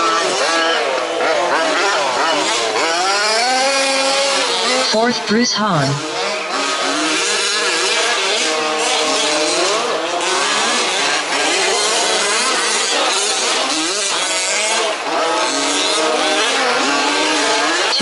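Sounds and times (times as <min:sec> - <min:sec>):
small two-stroke engines revving: 0:00.0 - 0:05.2, 0:06.0 - 0:18.0.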